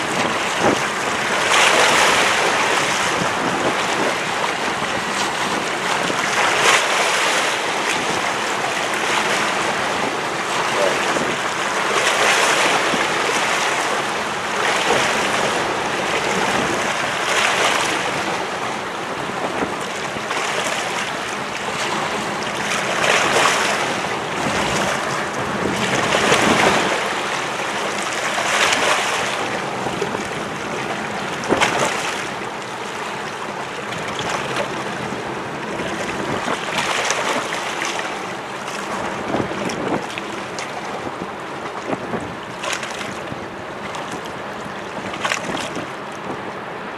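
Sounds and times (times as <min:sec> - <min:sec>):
sea waves washing in: 0:00.0 - 0:46.9
wind: 0:00.0 - 0:46.9.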